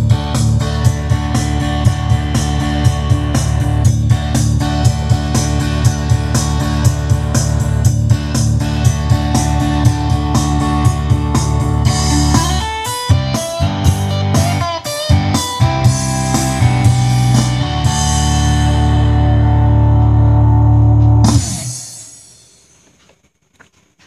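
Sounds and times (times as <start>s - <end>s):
rock drum beat: 0.0s - 19.3s, 21.2s - 22.8s
electric guitar: 0.0s - 22.0s.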